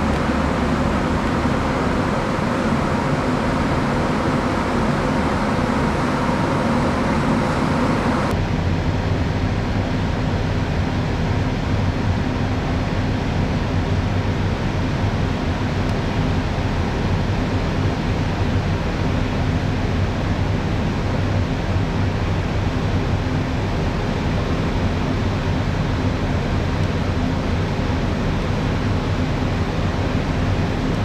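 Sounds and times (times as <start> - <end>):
ship machinery and ventilation drone: 0.0 - 31.0.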